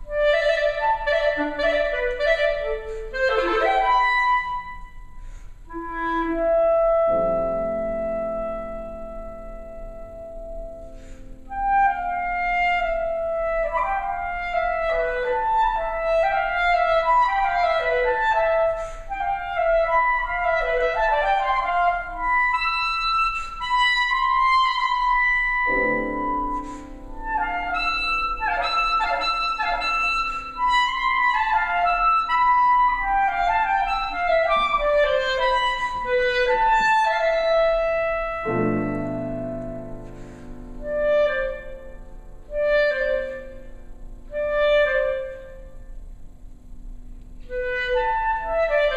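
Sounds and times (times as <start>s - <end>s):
clarinet playing fast runs: 0.0s - 5.1s, 11.5s - 45.8s, 47.4s - 48.9s
piano chords: 0.0s - 48.9s.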